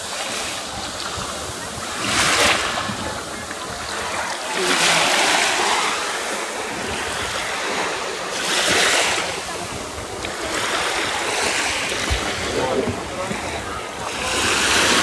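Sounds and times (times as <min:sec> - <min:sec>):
small waves washing ashore: 0:00.0 - 0:15.0.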